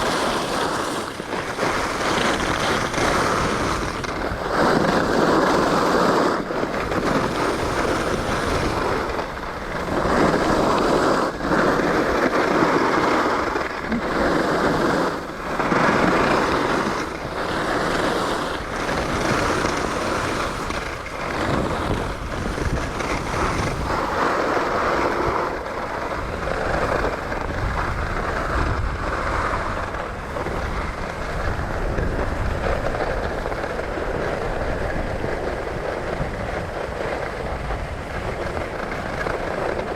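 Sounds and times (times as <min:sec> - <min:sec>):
skis scraping over snow: 0:00.0 - 0:39.9
wind rumbling on microphone: 0:00.0 - 0:39.9.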